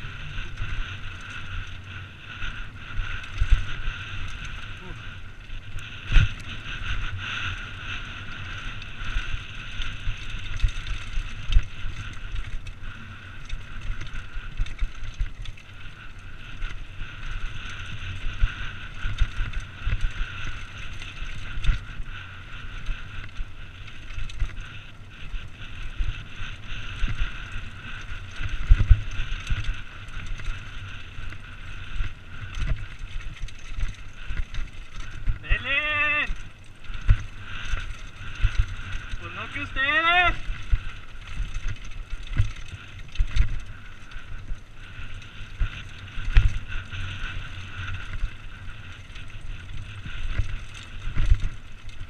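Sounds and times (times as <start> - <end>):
bike jolting and rattling on stones: 0.0 - 52.0
bike tyres rolling: 0.0 - 52.0
wind rumbling on microphone: 0.0 - 52.0.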